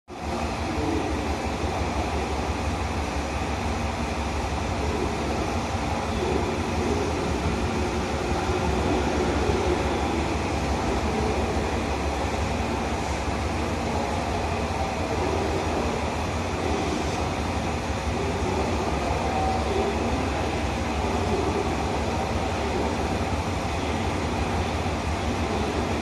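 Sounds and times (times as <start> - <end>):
diesel railcar engines running: 0.1 - 26.0.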